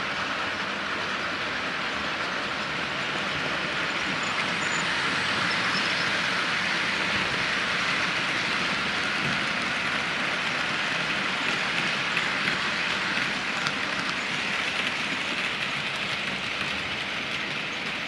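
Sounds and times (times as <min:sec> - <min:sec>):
model train rolling rattle: 0:00.8 - 0:18.0.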